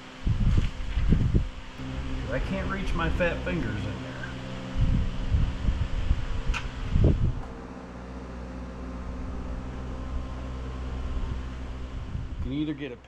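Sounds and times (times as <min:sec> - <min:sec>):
mechanical hum: 0:00.0 - 0:13.0
low bumps: 0:00.3 - 0:13.0.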